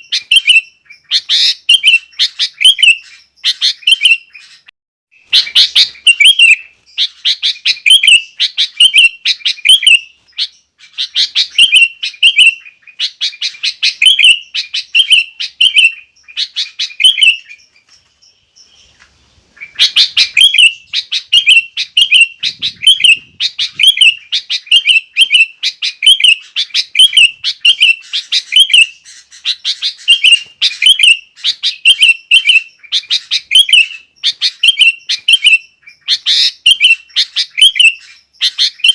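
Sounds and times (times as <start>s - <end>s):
bulbuls singing chirping phrases: 0.0s - 38.9s.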